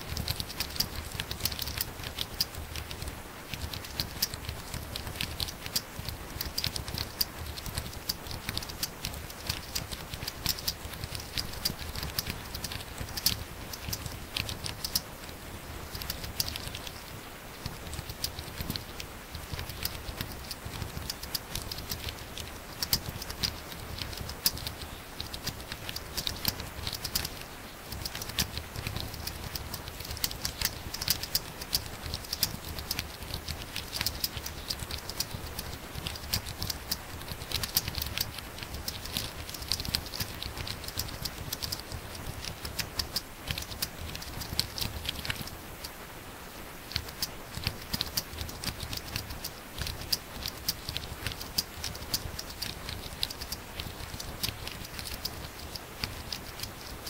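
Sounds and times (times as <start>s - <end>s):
fast typing on laptop keyboard: 0.0s - 46.0s, 46.9s - 57.0s.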